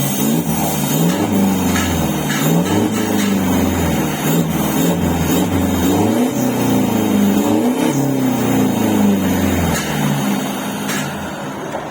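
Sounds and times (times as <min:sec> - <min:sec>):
diesel engine revving: 0:00.0 - 0:11.9.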